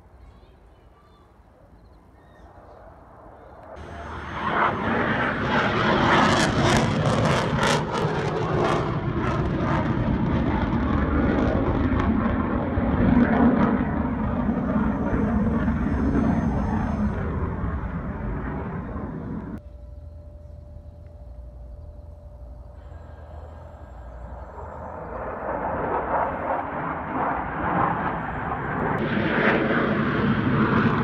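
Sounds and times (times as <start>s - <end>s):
jet roar: 2.5s - 19.9s, 22.3s - 31.0s.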